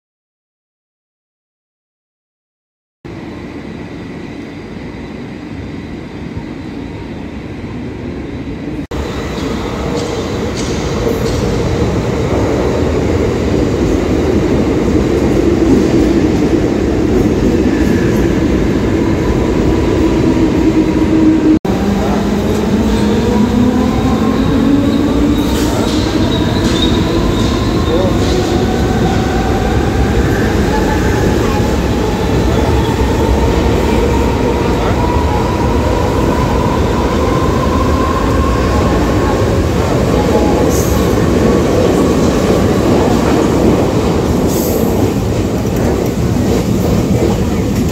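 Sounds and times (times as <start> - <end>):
train rumble: 3.1 - 47.9.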